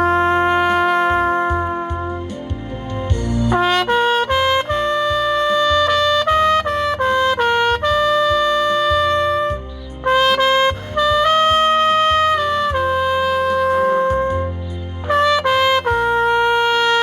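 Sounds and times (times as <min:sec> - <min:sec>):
backing track with bass line: 0:00.0 - 0:17.0
trumpet slow melody: 0:00.0 - 0:17.0.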